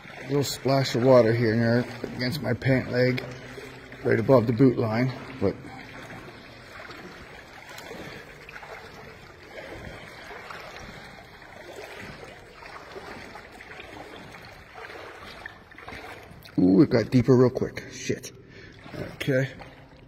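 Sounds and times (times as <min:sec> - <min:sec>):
boots wading through water: 0:00.0 - 0:20.0.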